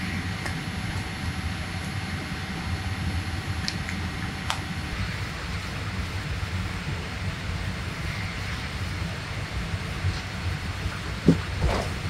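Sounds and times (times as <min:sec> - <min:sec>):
jet engine and air rumble: 0:00.0 - 0:12.0.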